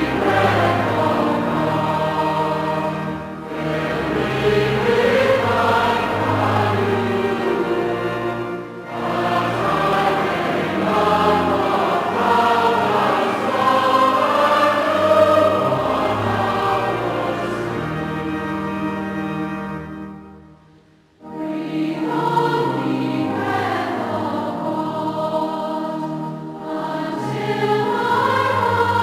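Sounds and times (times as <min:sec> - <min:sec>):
choir singing a hymn: 0:00.0 - 0:20.2, 0:21.2 - 0:29.0.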